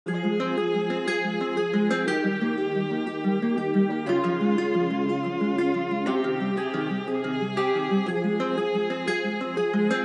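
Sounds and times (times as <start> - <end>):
plucked-string melody: 0.1 - 10.0.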